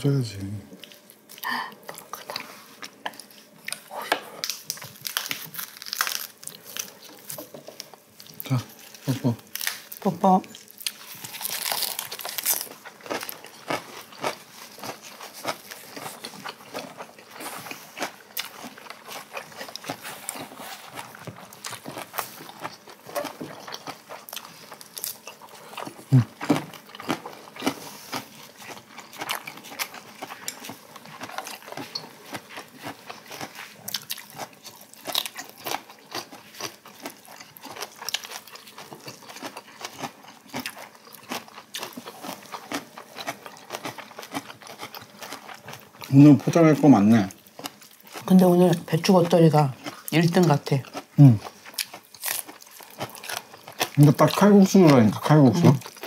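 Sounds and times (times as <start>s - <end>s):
people chewing crunchy vegetables: 0.0s - 56.0s.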